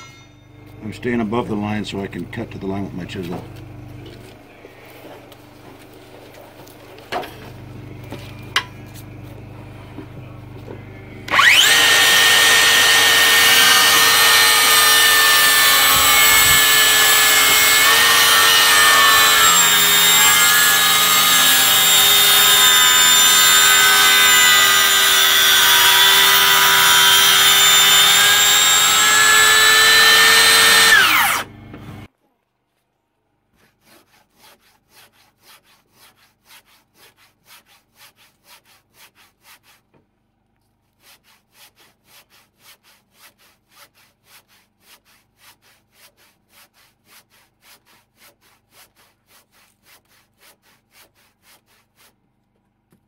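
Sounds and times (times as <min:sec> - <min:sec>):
circular saw cutting timber: 0:00.0 - 0:32.1, 0:33.6 - 0:39.9, 0:40.9 - 0:52.2.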